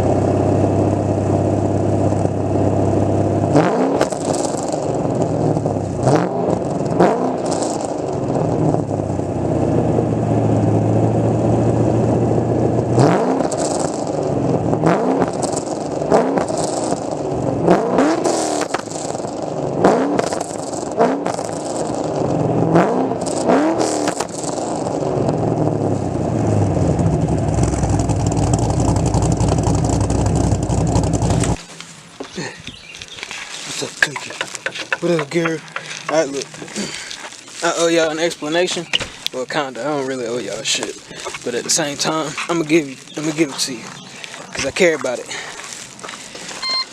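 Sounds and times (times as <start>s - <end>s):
car engine idling and revving: 0.0s - 46.9s.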